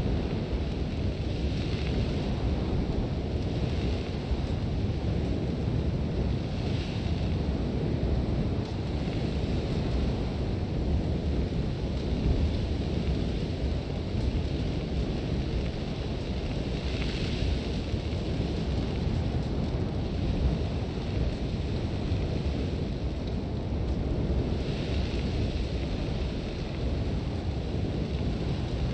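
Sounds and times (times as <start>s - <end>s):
sandstorm wind rumble: 0.0s - 28.9s.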